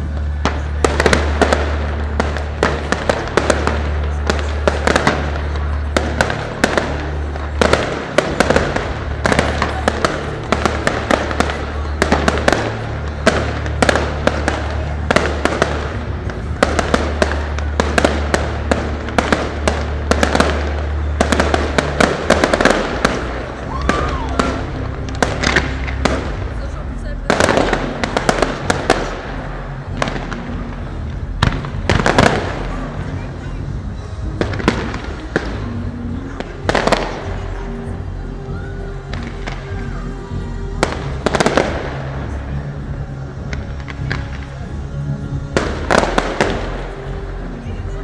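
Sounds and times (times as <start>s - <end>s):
fireworks bangs and crackles: 0.0s - 48.0s
music with deep bass: 0.0s - 48.0s.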